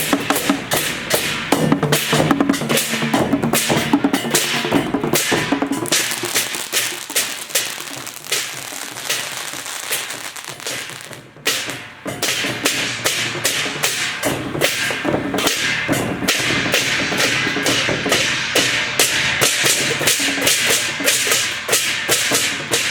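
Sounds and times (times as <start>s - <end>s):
procession percussion hits: 0.0s - 22.9s.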